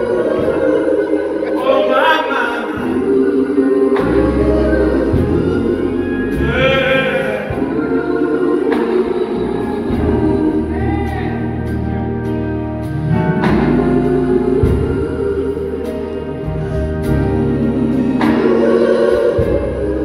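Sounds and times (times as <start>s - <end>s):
gospel choir singing: 0.0s - 20.0s
steady bass notes: 2.6s - 20.0s.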